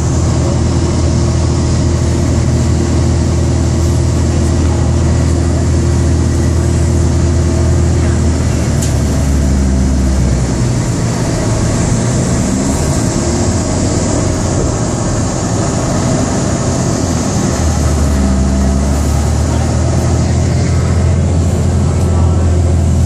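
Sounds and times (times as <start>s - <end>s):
car engine drone: 0.0s - 23.0s
road and wind hiss: 0.0s - 23.0s.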